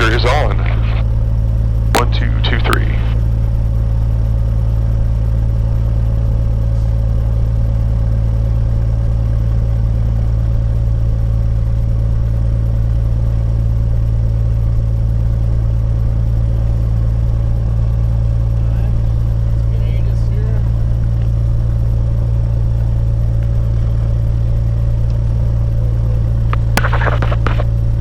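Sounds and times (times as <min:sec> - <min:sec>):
aircraft piston engine idling: 0:00.0 - 0:28.0.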